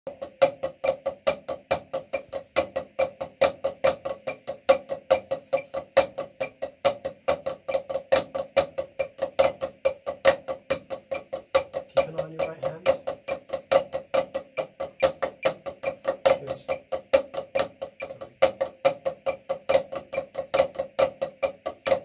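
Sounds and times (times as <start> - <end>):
drumsticks on practice pad: 0.1 - 22.0.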